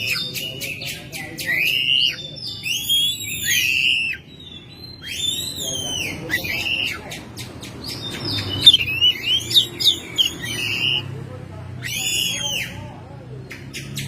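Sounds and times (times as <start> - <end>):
bird singing whistled phrases: 0.0 - 7.2, 7.8 - 11.1, 11.8 - 12.8.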